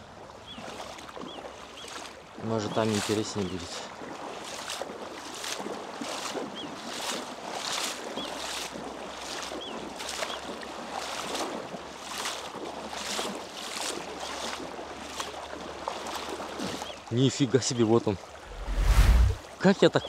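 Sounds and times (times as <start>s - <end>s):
wading through shallow water: 0.0s - 20.0s.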